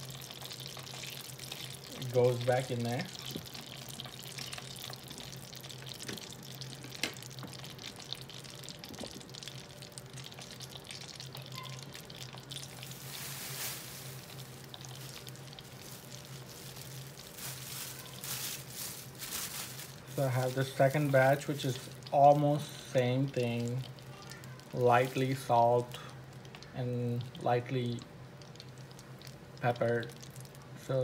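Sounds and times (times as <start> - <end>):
oil bubbling and crackling: 0.0 - 31.0.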